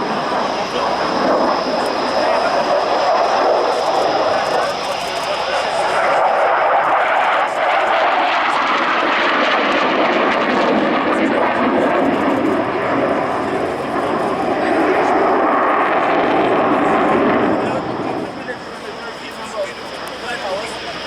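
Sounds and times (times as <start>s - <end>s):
fighter jet roar: 0.0s - 21.0s.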